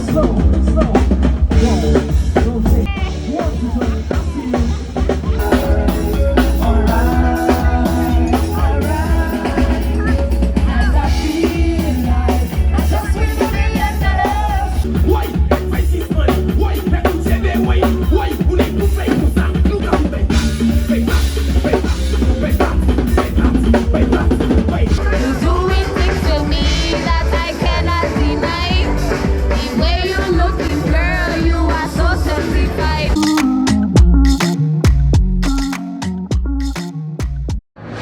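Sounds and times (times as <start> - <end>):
song with singing and drums: 0.0 - 37.6.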